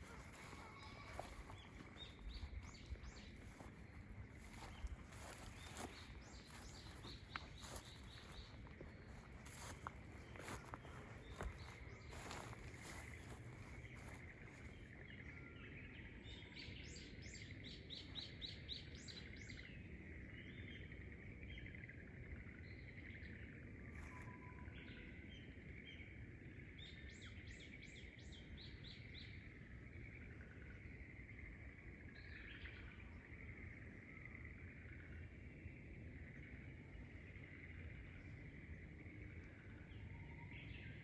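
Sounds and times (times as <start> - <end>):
faint outdoor background noise: 0.0 - 41.0.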